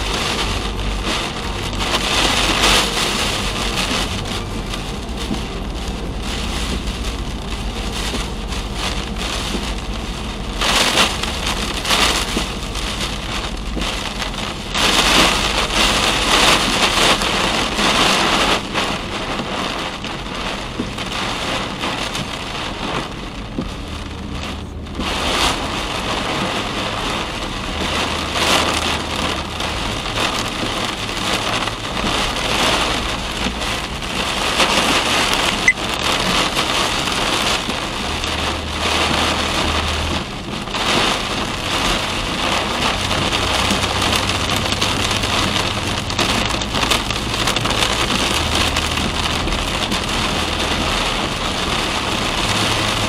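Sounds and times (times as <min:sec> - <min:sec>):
heavy rain on a car: 0:00.0 - 0:53.0
tyre hiss on wet road: 0:00.0 - 0:53.0.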